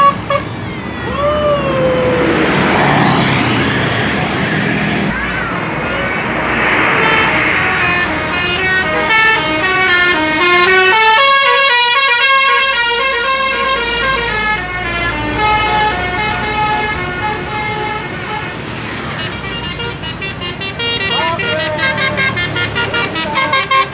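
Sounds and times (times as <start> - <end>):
multi-tone musical bus horn: 0.0 - 1.0, 2.2 - 23.9
passing traffic: 0.0 - 23.9.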